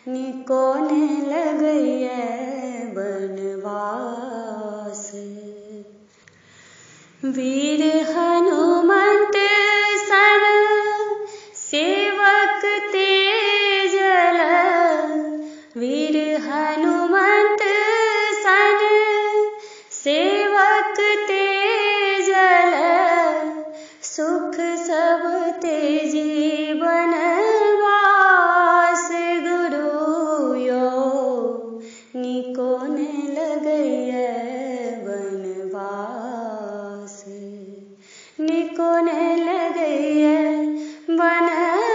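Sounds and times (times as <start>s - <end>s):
woman singing unaccompanied: 0.0s - 6.0s, 7.2s - 41.9s.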